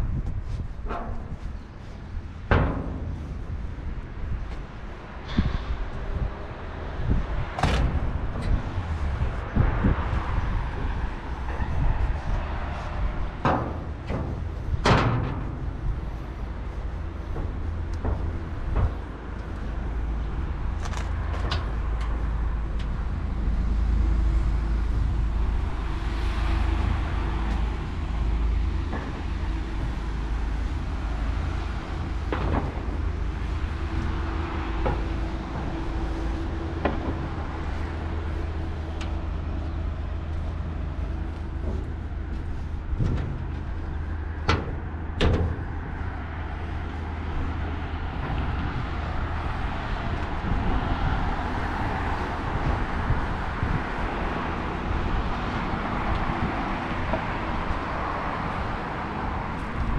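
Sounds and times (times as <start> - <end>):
road traffic rumble: 0.0 - 59.9
vehicle engine droning: 0.0 - 59.9
sharp clanks and knocks: 0.2 - 50.8.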